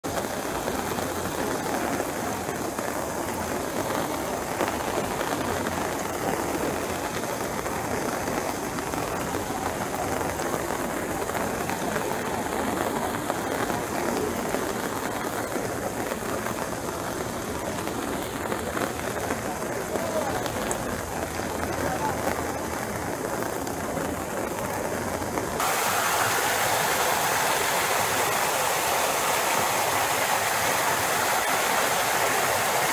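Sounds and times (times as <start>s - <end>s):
rain on cobblestones and puddles: 0.0s - 32.9s.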